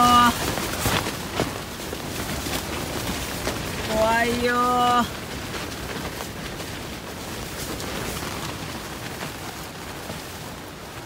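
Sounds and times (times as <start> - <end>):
rain and wind on tent fabric: 0.0 - 11.0.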